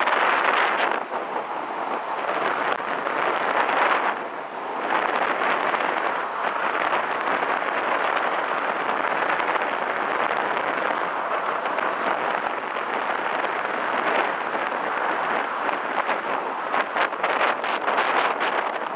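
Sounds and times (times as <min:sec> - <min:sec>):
water spray rushing: 0:00.0 - 0:18.9
wind rushing: 0:00.0 - 0:18.9.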